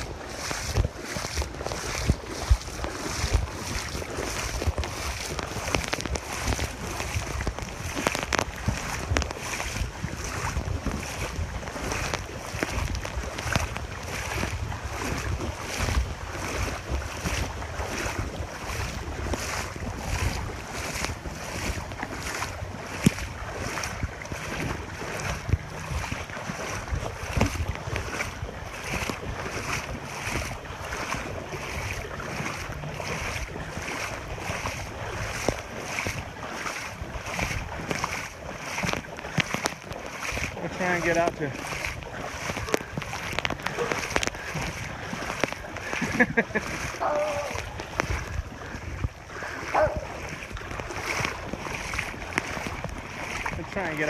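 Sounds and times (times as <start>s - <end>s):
footsteps wading through water: 0.0s - 54.0s
wind on microphone: 0.0s - 54.0s.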